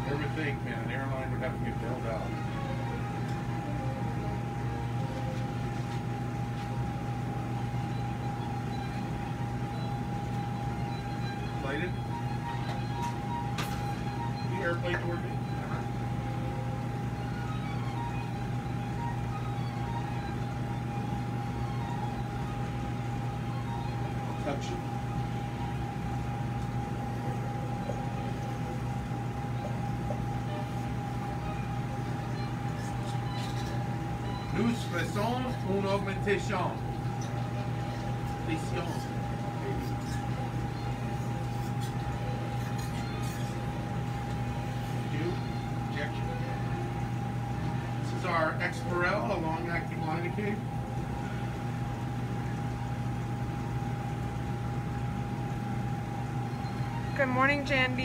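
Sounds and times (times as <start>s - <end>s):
equipment hum and hiss: 0.0s - 58.0s.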